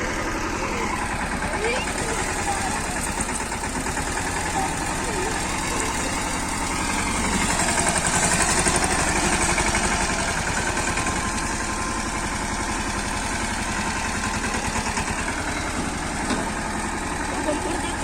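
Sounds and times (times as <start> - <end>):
diesel tractor engine chugging: 0.0 - 18.0.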